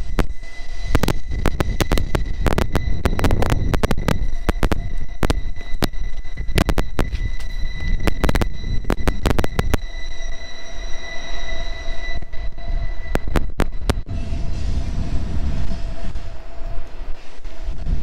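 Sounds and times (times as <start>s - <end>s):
low steady whine: 0.0s - 18.0s
train rumbling past: 0.0s - 18.0s
wheel squeal: 0.0s - 18.0s.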